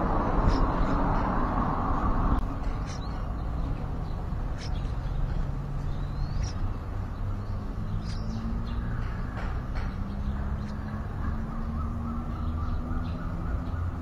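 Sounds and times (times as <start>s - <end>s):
birds chirping: 0.0s - 14.0s
steady background noise: 0.0s - 14.0s.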